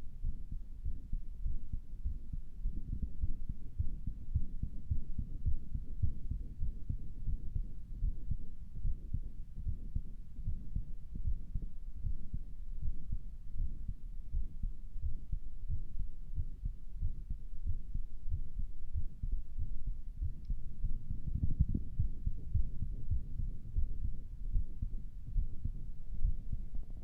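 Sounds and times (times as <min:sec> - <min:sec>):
heartbeat through stethoscope: 0:00.0 - 0:27.0.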